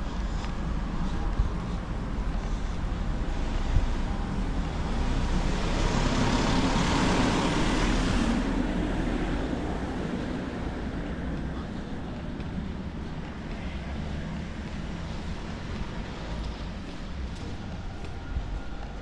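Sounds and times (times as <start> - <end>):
traffic background: 0.0 - 19.0
vehicle passing by: 2.4 - 19.0.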